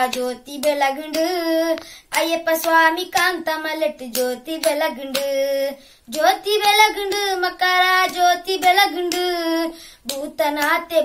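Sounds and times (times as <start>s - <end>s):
boy singing unaccompanied: 0.0s - 11.0s.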